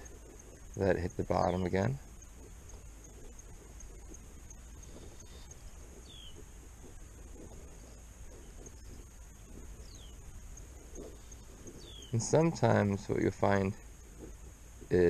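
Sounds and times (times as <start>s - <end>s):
high falling bird chirps: 0.2s - 7.0s, 7.8s - 14.0s.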